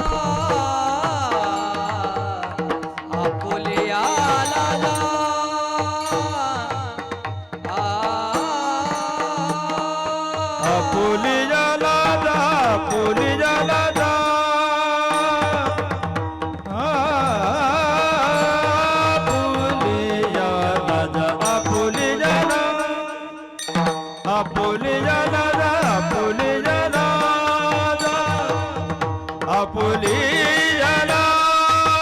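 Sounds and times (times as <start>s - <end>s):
mridang rhythm: 0.0s - 32.0s.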